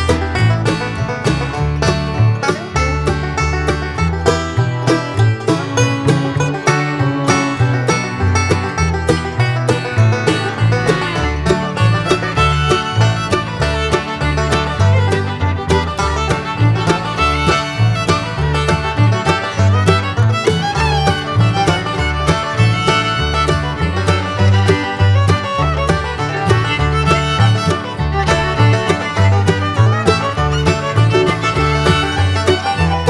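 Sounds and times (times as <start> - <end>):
upbeat bluegrass tune with fiddle: 0.0 - 33.0.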